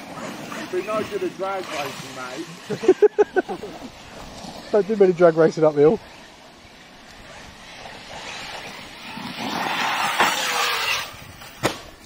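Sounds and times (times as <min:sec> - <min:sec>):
rc car driving over rough ground: 0:00.0 - 0:12.0.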